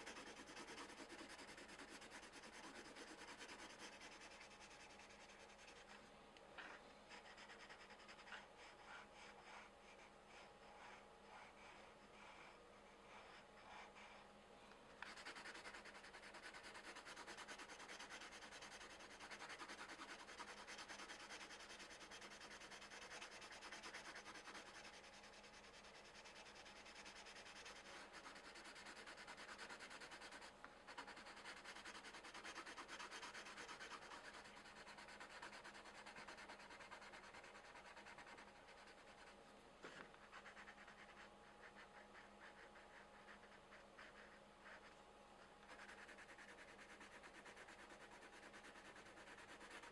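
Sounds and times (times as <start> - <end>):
pencils scratching on paper: 0.0 - 6.0, 6.6 - 14.2, 15.0 - 49.9.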